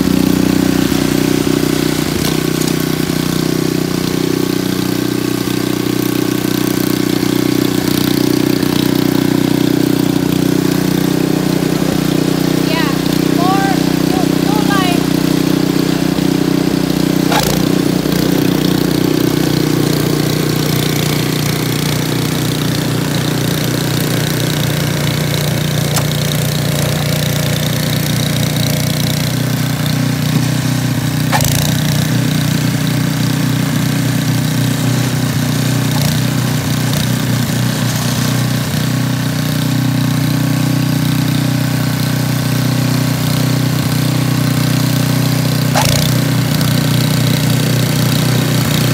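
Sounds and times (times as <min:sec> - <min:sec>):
snow blower engine running: 0:00.0 - 0:48.9.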